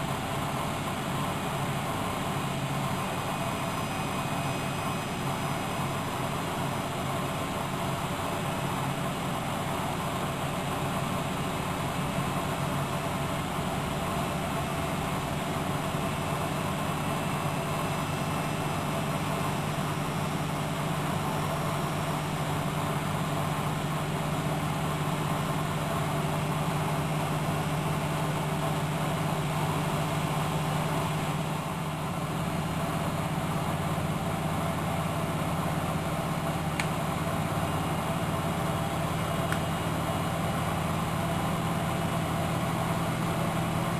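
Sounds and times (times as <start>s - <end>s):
washing machine running: 0.0s - 43.9s.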